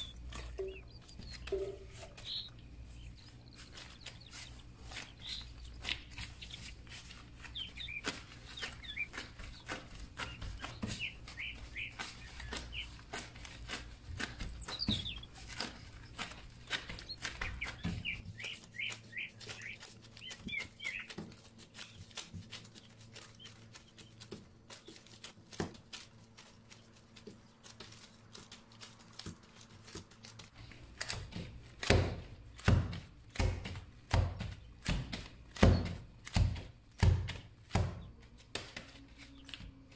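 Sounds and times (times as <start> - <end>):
birds chirping: 0.0 - 39.9
dough being kneaded by hand: 0.0 - 39.9.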